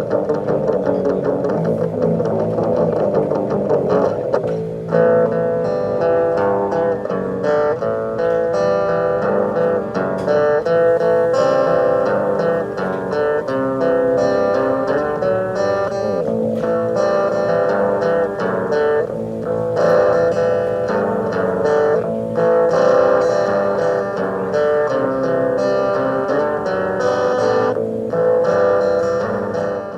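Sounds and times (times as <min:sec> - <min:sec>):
guitar music from small speaker: 0:00.0 - 0:29.9.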